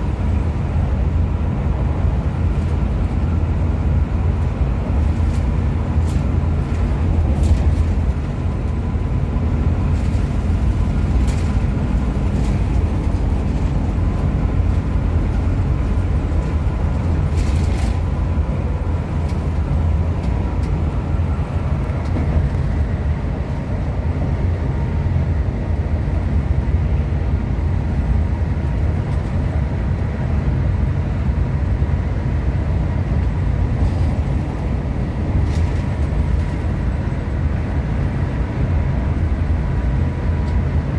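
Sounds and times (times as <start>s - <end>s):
coach engine rumble: 0.0s - 40.9s
road noise: 0.0s - 40.9s.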